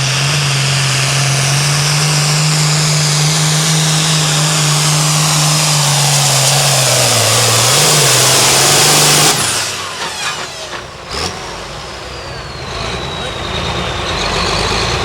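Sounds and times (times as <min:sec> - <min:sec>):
diesel engine running flat out: 0:00.0 - 0:15.0
turbocharger whine winding down: 0:00.0 - 0:15.0.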